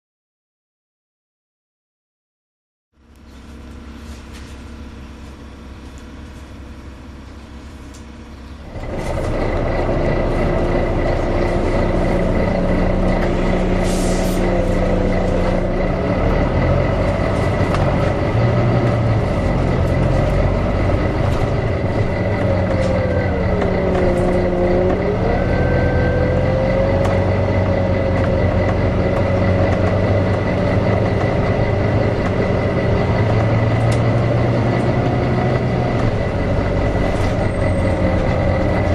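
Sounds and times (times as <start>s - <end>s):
bus engine running: 3.0s - 38.9s.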